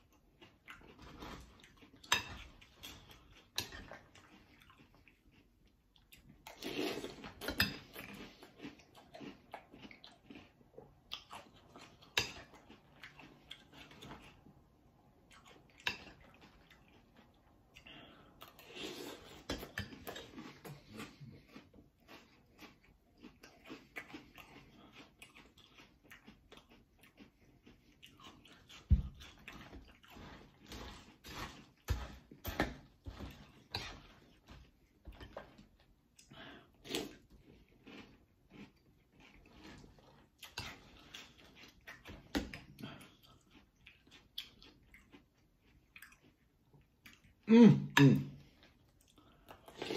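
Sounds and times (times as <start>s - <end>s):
person chewing crunchy cereal: 0.0s - 47.4s, 48.2s - 49.9s.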